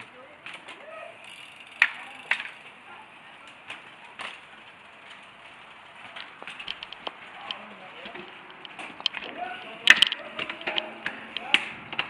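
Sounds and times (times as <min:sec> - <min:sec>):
mountain bikes rattling: 0:00.0 - 0:12.0.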